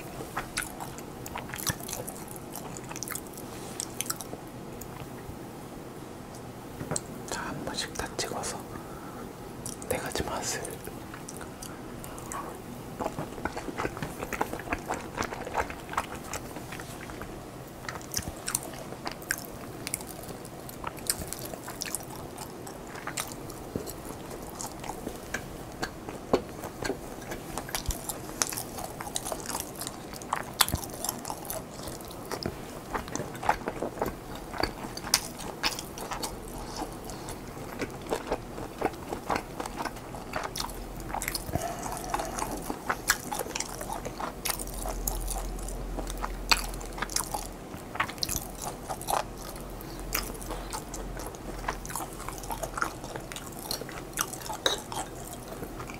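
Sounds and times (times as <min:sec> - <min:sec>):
person chewing food: 0:00.0 - 0:05.3, 0:09.6 - 0:55.9.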